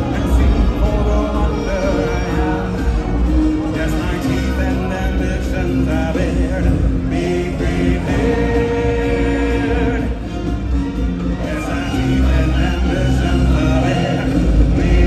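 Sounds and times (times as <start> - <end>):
band backing: 0.0 - 15.0
choir singing held notes: 0.0 - 15.0.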